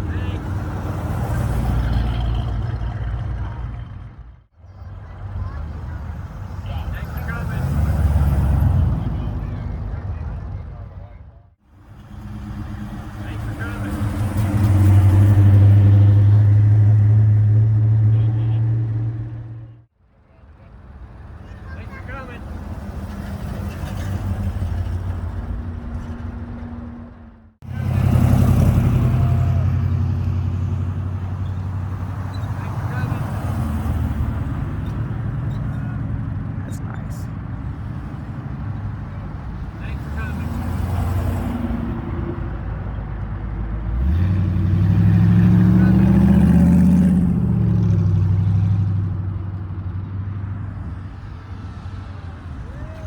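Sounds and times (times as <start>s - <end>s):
car engines driving past: 0.0s - 53.0s
deep engine: 0.0s - 53.0s.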